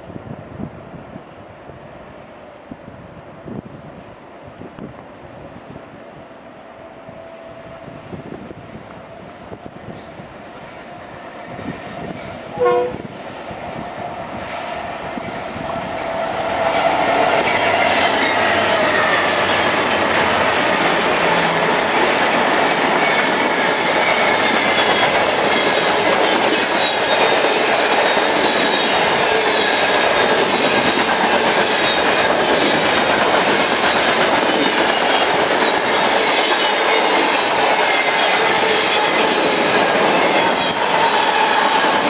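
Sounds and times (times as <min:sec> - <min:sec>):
freight train cars rumbling past: 0:00.0 - 0:42.0.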